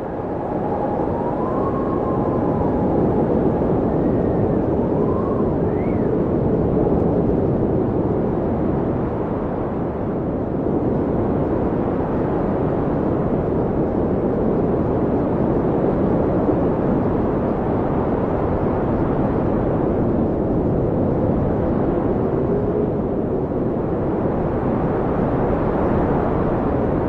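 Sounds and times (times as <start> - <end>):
blizzard wind rushing: 0.0 - 27.0.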